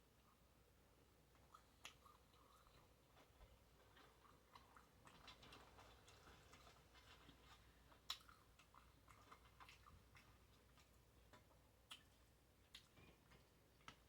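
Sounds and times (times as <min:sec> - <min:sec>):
close-up chewing: 0:01.3 - 0:14.0.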